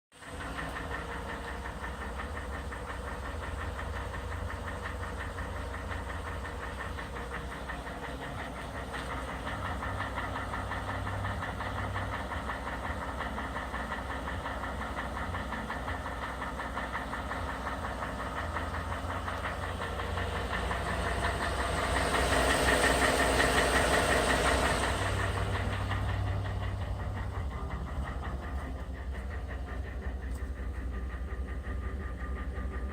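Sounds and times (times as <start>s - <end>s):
car engine knocking: 0.1s - 32.9s.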